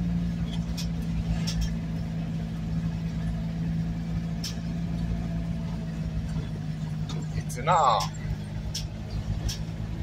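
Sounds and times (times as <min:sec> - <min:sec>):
engine and road noise drone: 0:00.0 - 0:10.0.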